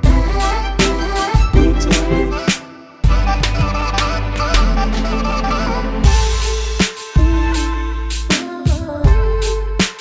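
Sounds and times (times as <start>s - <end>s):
background music with a beat: 0.0s - 10.0s.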